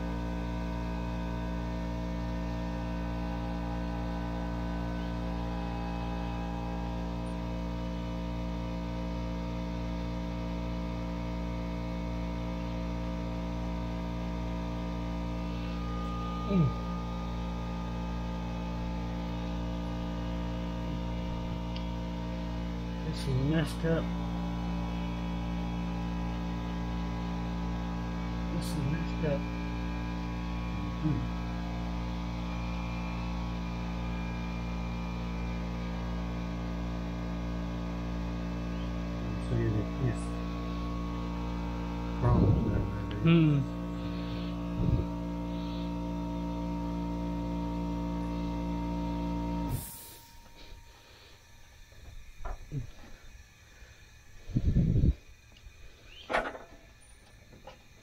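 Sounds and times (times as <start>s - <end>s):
electrical hum: 0.0s - 58.0s
low buzz: 0.0s - 58.0s.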